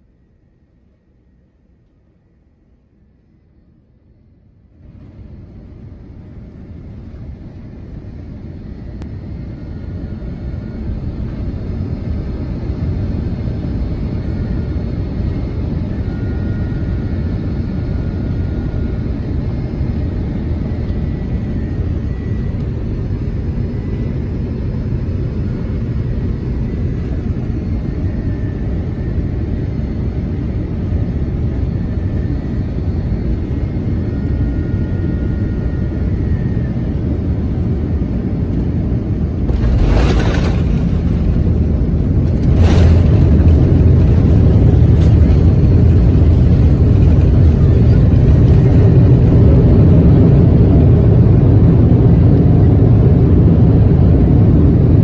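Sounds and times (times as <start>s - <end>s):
faint high whine: 0.0s - 50.4s
airliner cabin engine rumble: 0.0s - 55.0s.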